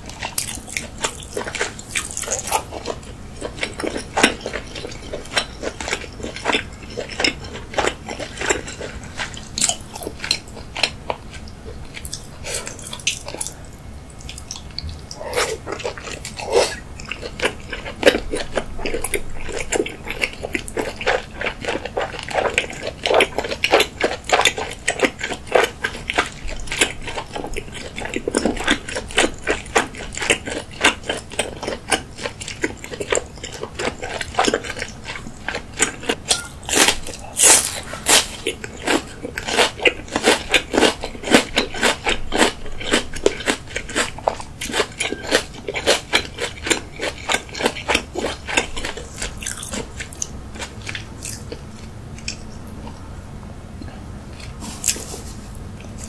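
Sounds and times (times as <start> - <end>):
wet chewing and crunching: 0.0 - 53.1, 53.8 - 56.0.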